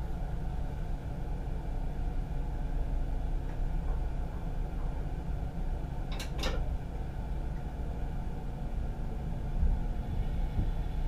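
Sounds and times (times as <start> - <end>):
train cab rumble: 0.0 - 11.0.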